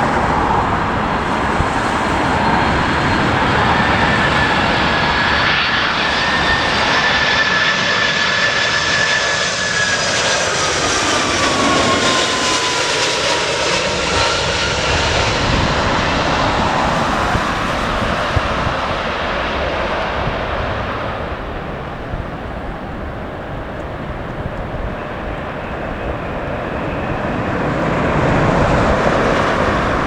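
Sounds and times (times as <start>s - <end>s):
wind buffeting microphone: 0.0s - 9.1s, 9.7s - 30.0s
jet airliner passing: 0.0s - 30.0s.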